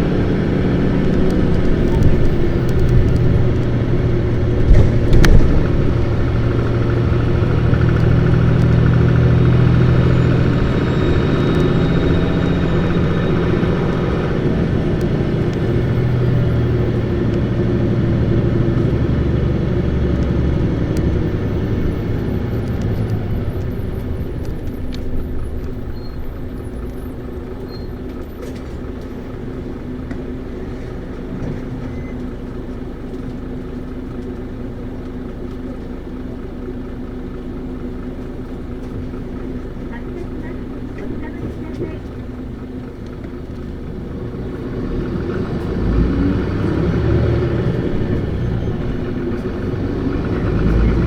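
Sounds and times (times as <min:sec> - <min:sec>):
bus diesel engine: 0:00.0 - 0:51.0.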